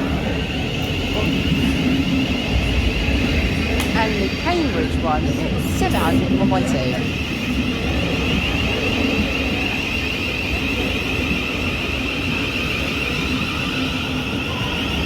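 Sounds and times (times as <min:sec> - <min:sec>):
electric train low rumble: 0:00.0 - 0:15.0
train high whine: 0:00.0 - 0:15.0.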